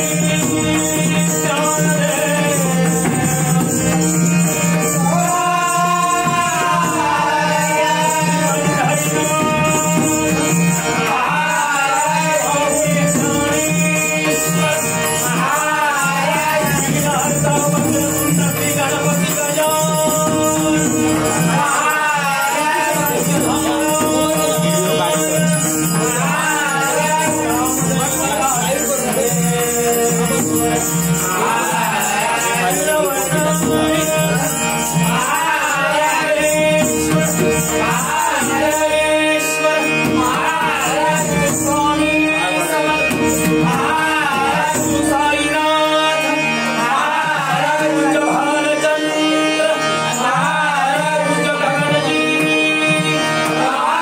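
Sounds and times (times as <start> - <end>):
held instrumental tones: 0.0 - 54.0
jingling hand percussion: 0.0 - 54.0
person singing devotional song: 0.0 - 54.0.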